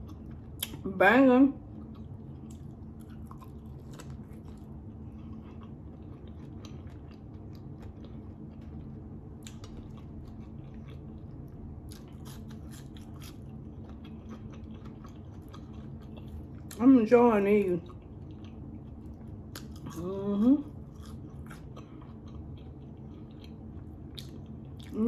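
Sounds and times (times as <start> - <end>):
person chewing with crunches: 0.0 - 0.8, 1.6 - 16.8, 17.8 - 25.0.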